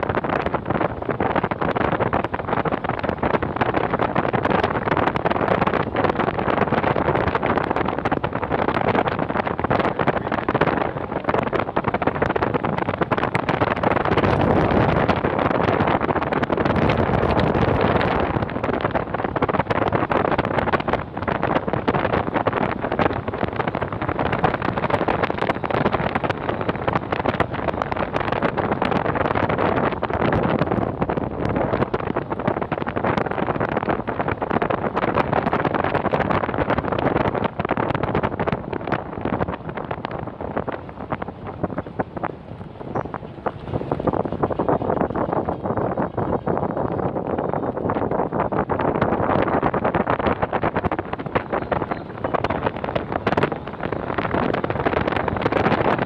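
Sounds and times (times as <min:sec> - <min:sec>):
road and engine noise: 0:00.0 - 0:56.0
vehicle driving noise: 0:00.0 - 0:56.0
wind buffeting microphone: 0:00.0 - 0:56.0.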